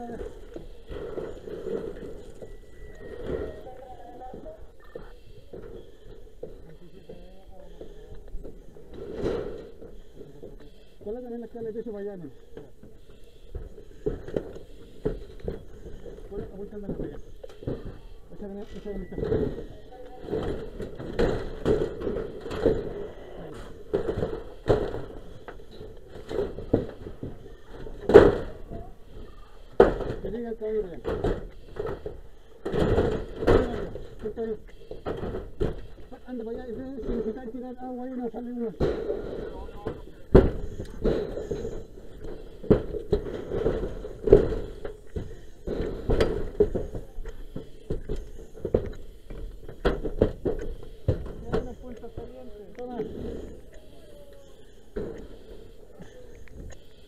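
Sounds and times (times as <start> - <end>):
knocks and crunches of debris: 0.0 - 37.8, 38.4 - 53.9.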